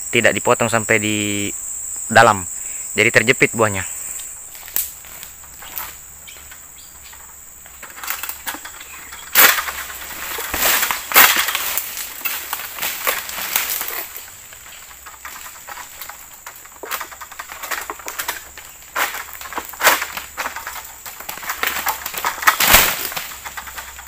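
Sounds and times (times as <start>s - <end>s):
insect drone: 0.0s - 24.0s
leaves rustling: 1.8s - 24.0s
palm frond cracking: 4.5s - 24.0s.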